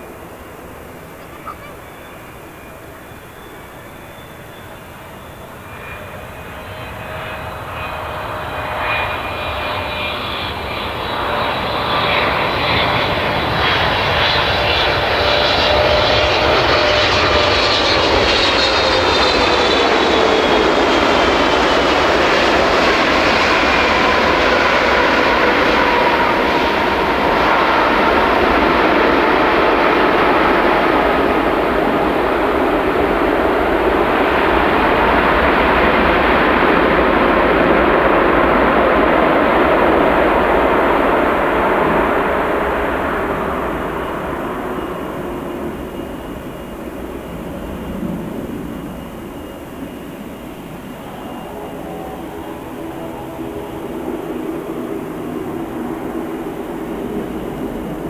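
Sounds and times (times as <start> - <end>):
jet engines rumbling: 0.0 - 58.0
whining engine tones: 0.0 - 58.0.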